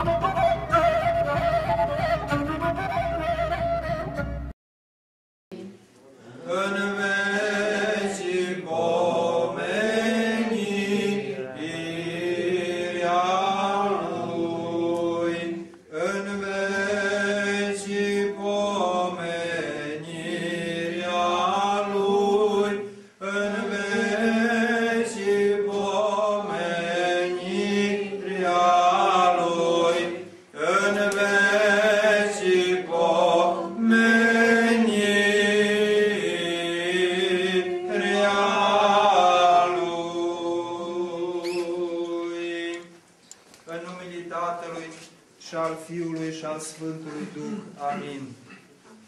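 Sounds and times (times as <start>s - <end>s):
voices chanting liturgical melody: 5.6s - 43.0s, 43.7s - 48.4s.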